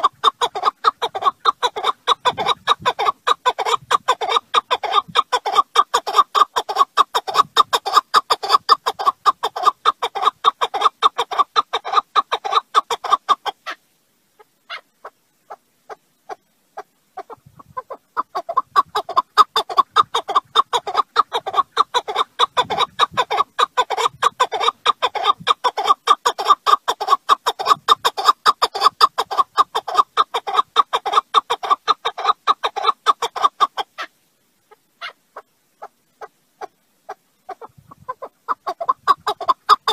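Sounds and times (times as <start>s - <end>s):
partridge calling: 0.0s - 13.8s, 14.4s - 33.8s.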